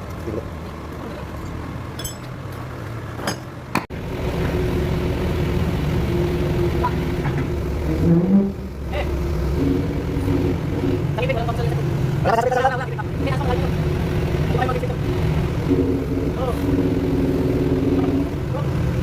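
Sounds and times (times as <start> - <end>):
engine rumbling with whine: 0.0 - 19.0.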